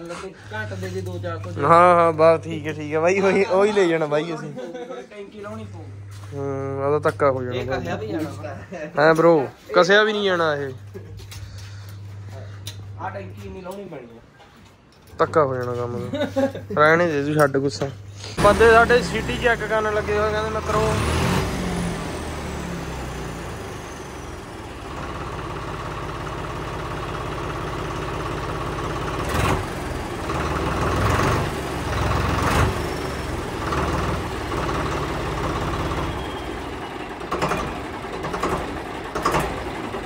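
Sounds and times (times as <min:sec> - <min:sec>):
tractor engine idling: 0:00.0 - 0:04.7, 0:05.4 - 0:14.4, 0:16.8 - 0:40.0.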